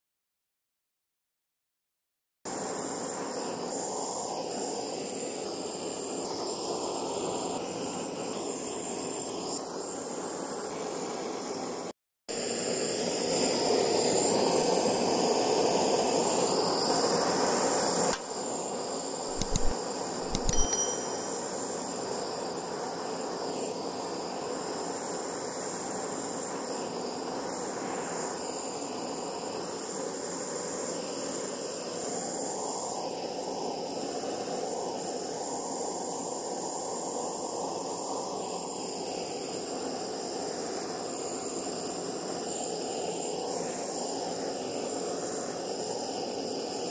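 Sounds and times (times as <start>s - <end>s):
gas torch flame hissing: 2.5s - 20.5s, 21.3s - 46.9s.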